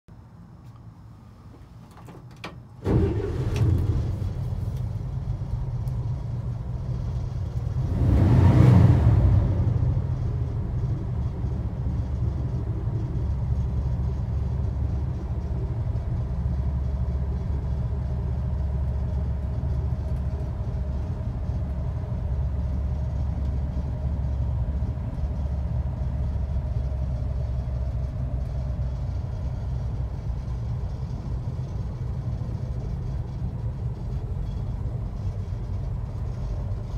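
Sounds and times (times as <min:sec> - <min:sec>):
van engine starting and idling: 0:01.0 - 0:36.9.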